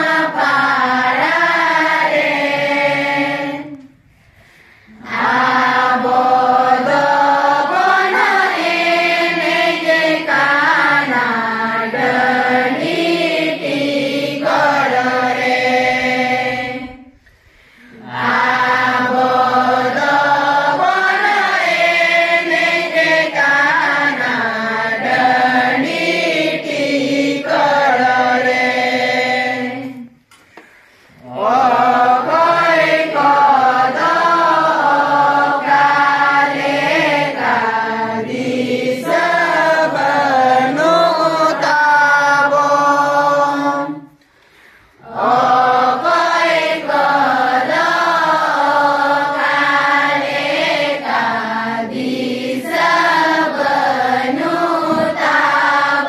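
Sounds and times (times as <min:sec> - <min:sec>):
group of women singing: 0:00.0 - 0:04.0, 0:04.9 - 0:30.3, 0:31.2 - 0:44.2, 0:45.0 - 0:56.0.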